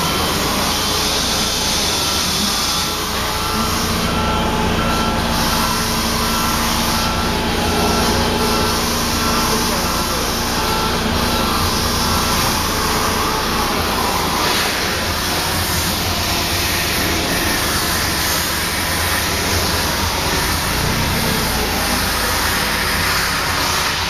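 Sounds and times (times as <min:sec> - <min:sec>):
forklift and vacuum lifter running: 0:00.0 - 0:24.0.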